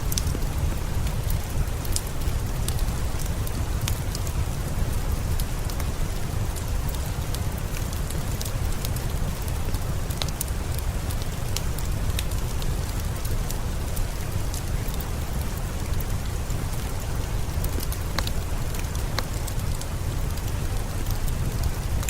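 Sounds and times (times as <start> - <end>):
steady rain: 0.0 - 22.0
wood fire popping and crackling: 0.0 - 22.0.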